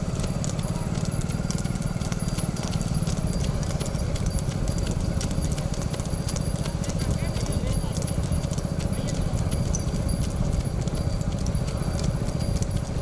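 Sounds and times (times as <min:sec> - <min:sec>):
motorcycle engines puttering: 0:00.0 - 0:13.0.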